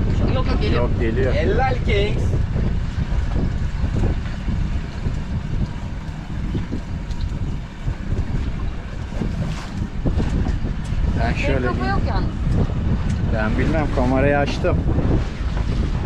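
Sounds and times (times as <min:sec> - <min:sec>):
wind and sea hiss: 0:00.0 - 0:16.0
wind buffeting microphone: 0:00.0 - 0:16.0.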